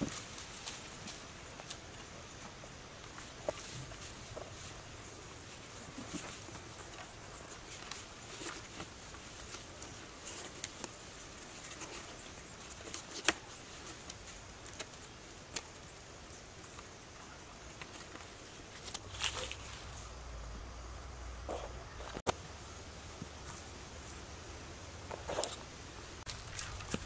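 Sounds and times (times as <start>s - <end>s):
high-pitched insect hum: 0.0s - 27.0s.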